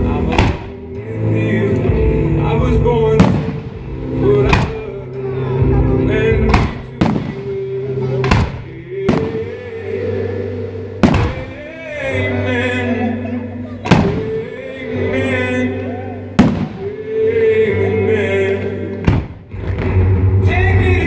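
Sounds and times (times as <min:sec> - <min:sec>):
music with sustained notes: 0:00.0 - 0:21.0.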